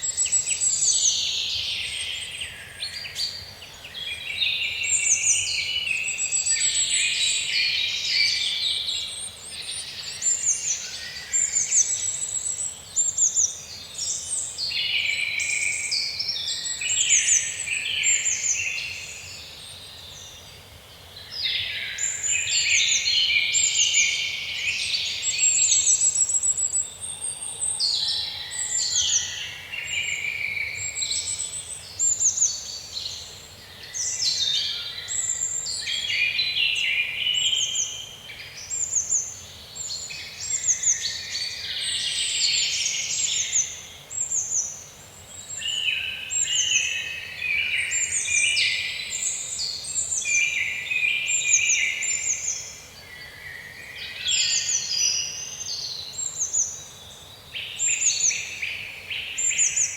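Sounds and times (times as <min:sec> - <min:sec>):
faint steady hiss: 0:00.0 - 0:59.9
songbirds chirping and trilling: 0:00.0 - 0:59.9.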